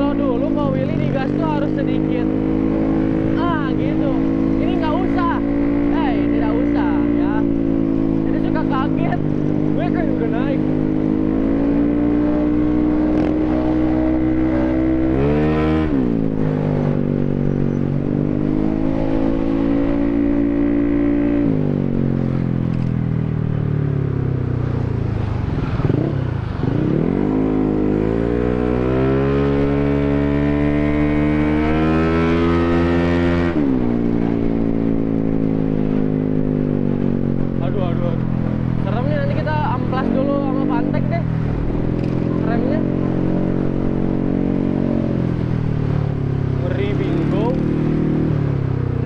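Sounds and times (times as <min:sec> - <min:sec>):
scooter engine revving: 0:00.0 - 0:23.0, 0:23.7 - 0:49.0.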